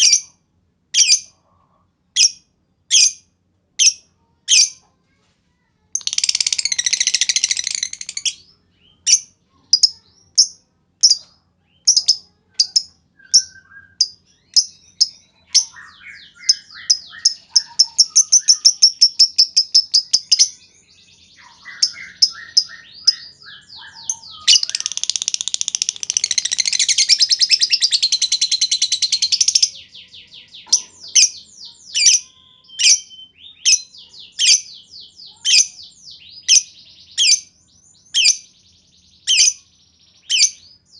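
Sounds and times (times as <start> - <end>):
lovebird chirping and trilling: 0.0 - 1.4, 2.2 - 4.8, 6.0 - 40.9.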